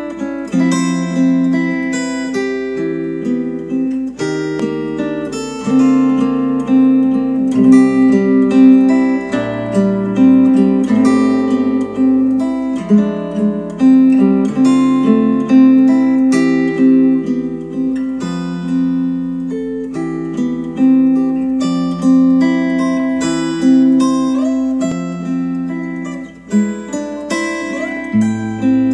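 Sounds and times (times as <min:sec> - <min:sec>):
acoustic guitar music through speakers: 0:00.0 - 0:28.9.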